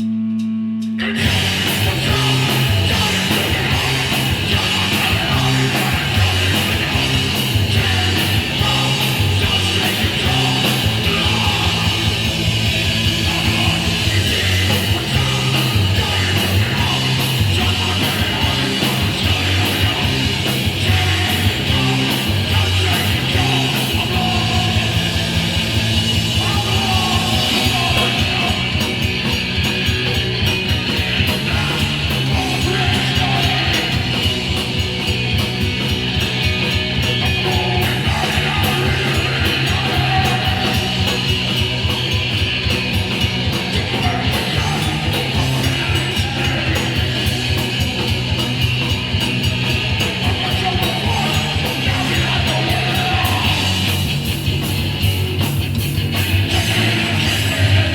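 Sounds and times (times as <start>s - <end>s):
punk band playing live: 0.0s - 57.9s.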